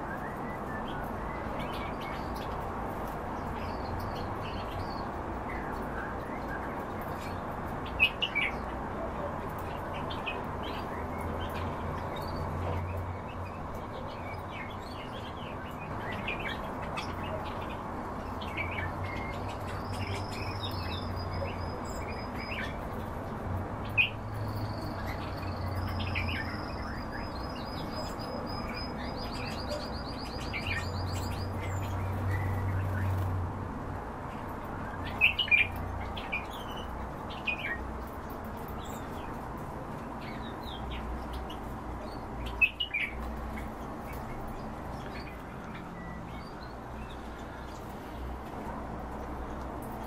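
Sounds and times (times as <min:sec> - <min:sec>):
songbirds chirping and trilling: 0:00.0 - 0:50.0.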